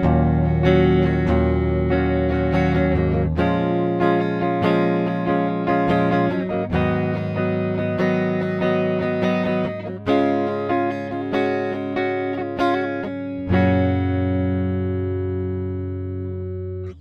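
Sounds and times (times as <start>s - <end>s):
electric guitar chords: 0.0s - 17.0s.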